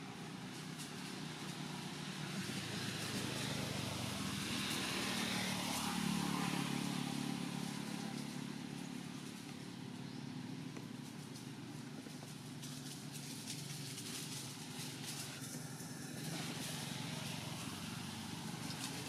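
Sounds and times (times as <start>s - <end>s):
vehicle engine passing by: 0.0s - 19.0s.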